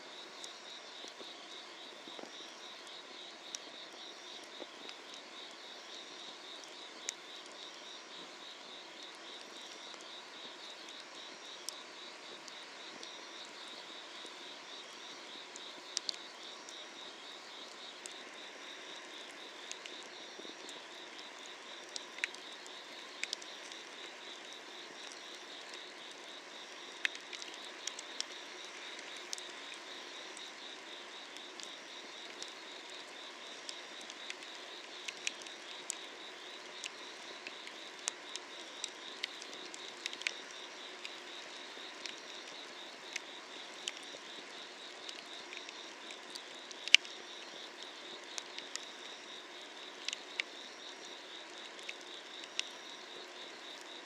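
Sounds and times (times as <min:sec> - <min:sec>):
insects chirping: 0:00.1 - 0:54.0.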